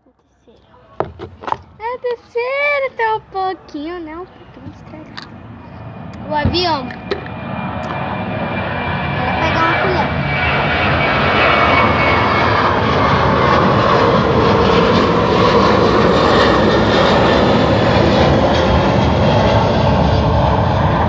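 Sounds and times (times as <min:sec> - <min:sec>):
airplane flying over: 0:00.0 - 0:21.0.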